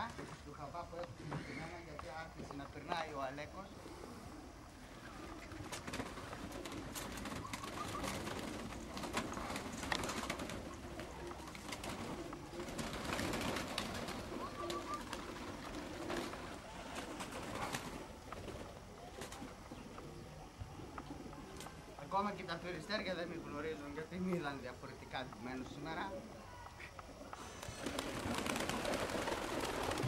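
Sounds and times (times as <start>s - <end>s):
pigeons cooing: 3.6s - 24.3s, 26.1s - 30.0s.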